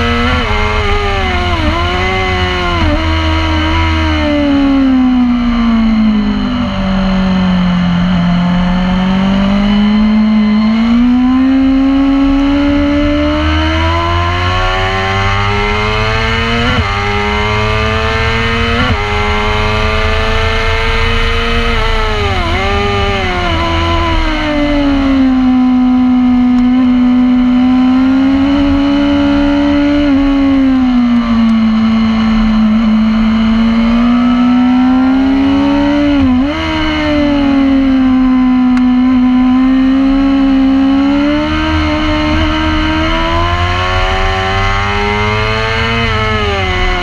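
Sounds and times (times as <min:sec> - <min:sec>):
racing motorcycle engine revving: 0:00.0 - 0:47.0.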